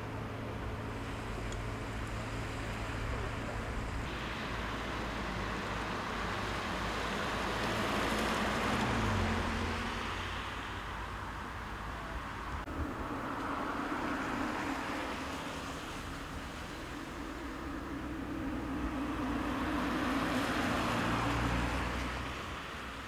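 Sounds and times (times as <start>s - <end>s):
car engine hum: 0.0s - 23.0s
tyres hissing on wet road: 0.5s - 23.0s.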